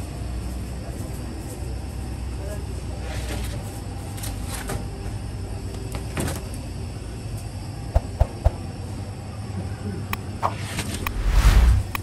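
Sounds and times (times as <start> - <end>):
bread oven humming: 0.0 - 12.0.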